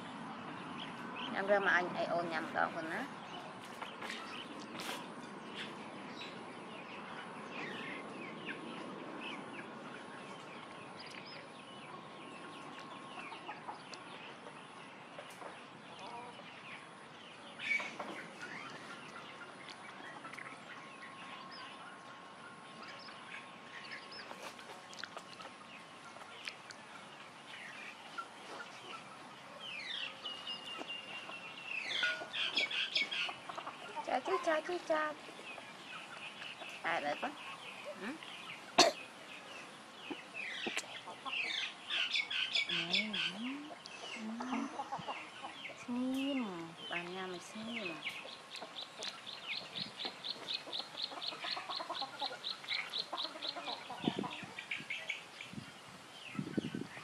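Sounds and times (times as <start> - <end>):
chickens clucking: 0.0 - 55.6
small birds chirping: 0.0 - 57.0.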